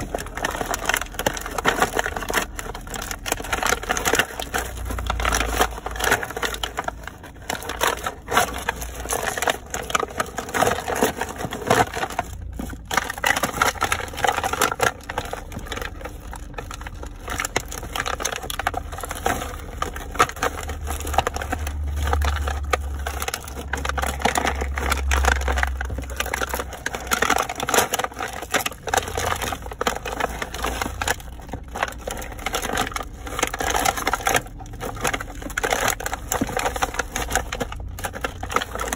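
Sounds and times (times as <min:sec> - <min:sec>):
cardboard and plastic crunching: 0:00.0 - 0:38.9.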